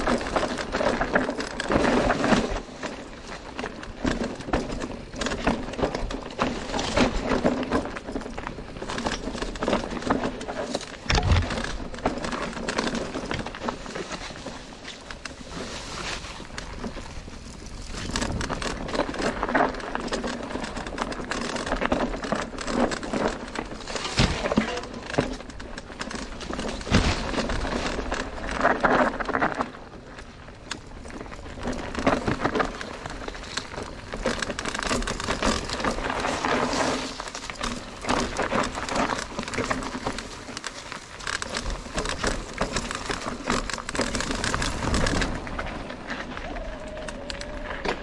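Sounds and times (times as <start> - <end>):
bike rattling and clicking: 0.0 - 48.0
tyres crunching over dirt and stones: 0.0 - 48.0.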